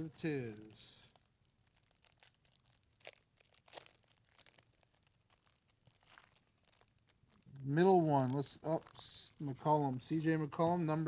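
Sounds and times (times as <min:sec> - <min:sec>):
wrapper crinkling and tearing: 0:00.1 - 0:10.6.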